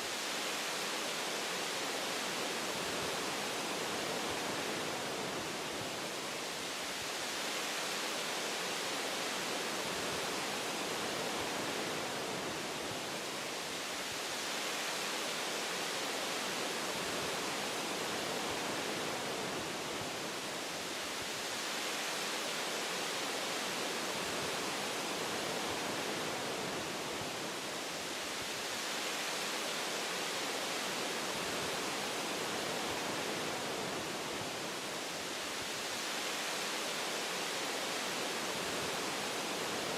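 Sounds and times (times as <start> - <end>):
wind through tree branches: 0.0 - 39.9.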